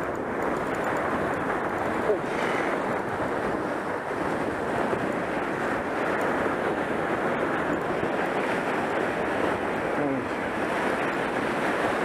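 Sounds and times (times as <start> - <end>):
surf washing over sand: 0.0 - 12.0
wind buffeting microphone: 0.0 - 12.0.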